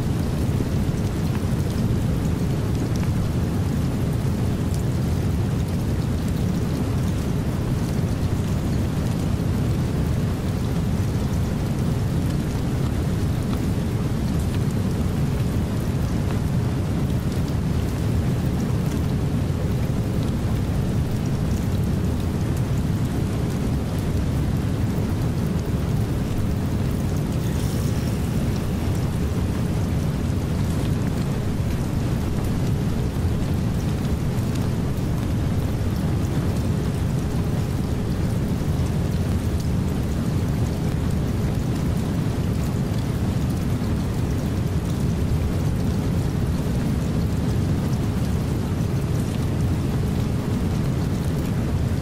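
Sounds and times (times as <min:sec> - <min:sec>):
rain hiss: 0:00.0 - 0:52.0.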